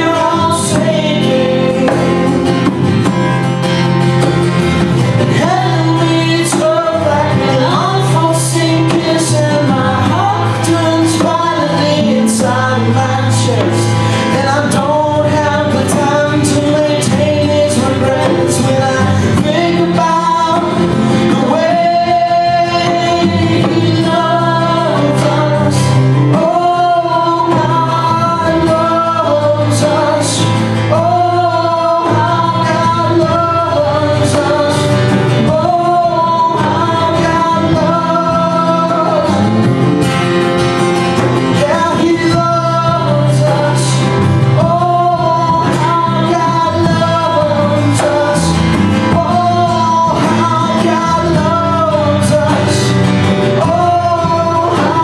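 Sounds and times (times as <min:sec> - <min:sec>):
drum kit: 0:00.0 - 0:55.0
strummed acoustic guitar: 0:00.0 - 0:55.0
woman singing lead: 0:00.0 - 0:55.0.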